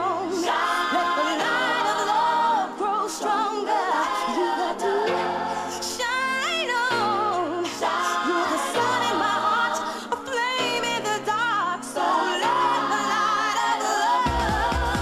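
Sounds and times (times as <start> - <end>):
voices singing in harmony: 0.0 - 15.0.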